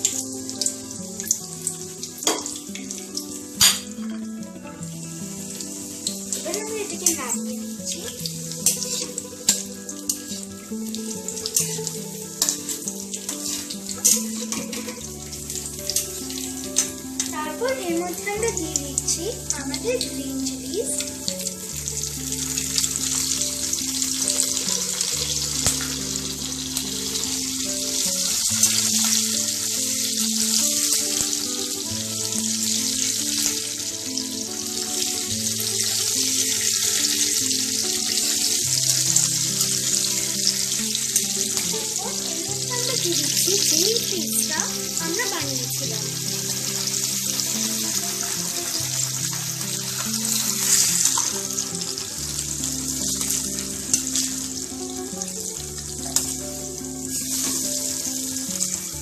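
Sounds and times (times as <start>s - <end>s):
background music with low notes: 0.0s - 59.0s
spices sizzling in hot oil: 0.0s - 59.0s.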